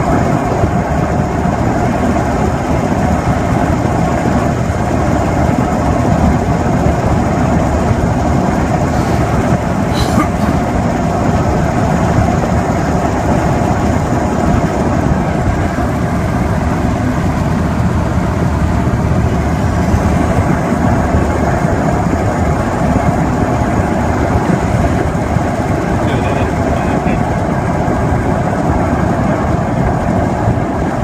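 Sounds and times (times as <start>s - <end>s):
car engine running: 0.0s - 31.0s
road noise: 0.0s - 31.0s
wind noise: 0.0s - 31.0s.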